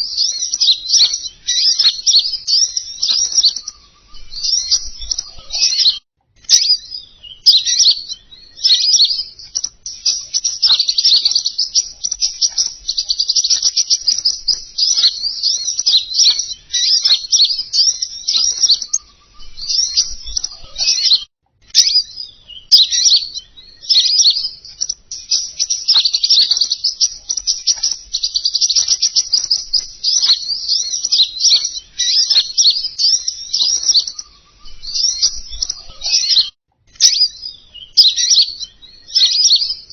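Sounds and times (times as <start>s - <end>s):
recorded birdsong chirps and trills: 0.0s - 39.9s.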